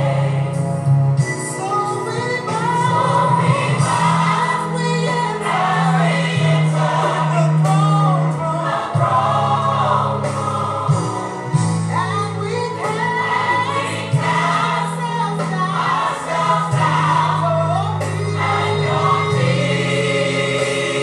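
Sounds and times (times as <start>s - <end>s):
choir singing: 0.0s - 0.7s, 1.8s - 21.0s.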